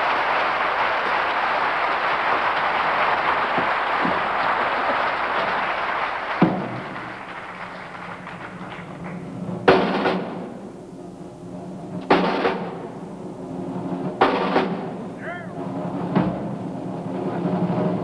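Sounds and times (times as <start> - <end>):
audience applauding: 0.0 - 13.6, 14.5 - 15.6.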